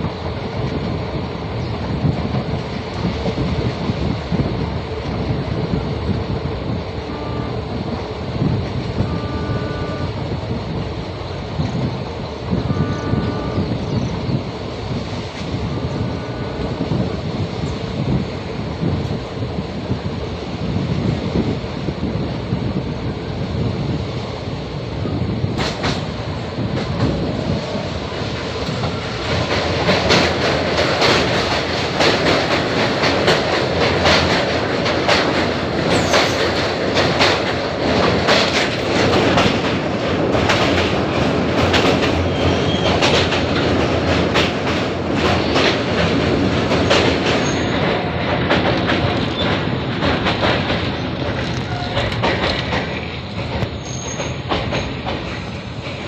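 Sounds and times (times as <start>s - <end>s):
wind rushing: 0.0s - 9.2s, 10.0s - 53.8s
train wheels clattering on rails: 0.0s - 56.0s.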